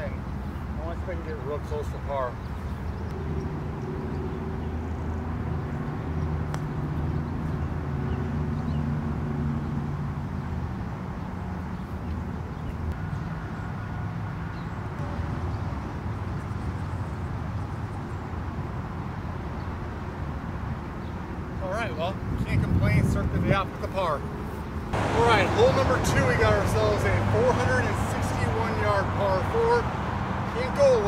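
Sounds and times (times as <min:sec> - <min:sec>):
low engine hum: 0:02.4 - 0:31.0.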